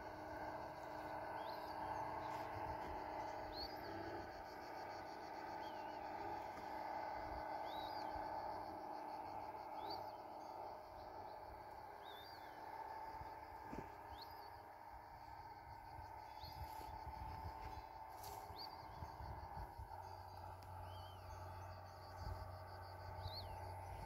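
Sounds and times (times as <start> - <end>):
insect chirr: 0.0 - 24.0
low outdoor hum: 0.0 - 24.0.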